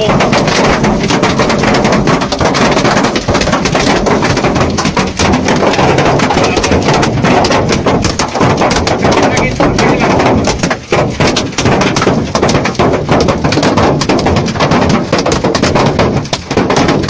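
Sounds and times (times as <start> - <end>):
hail clattering: 0.0 - 17.0.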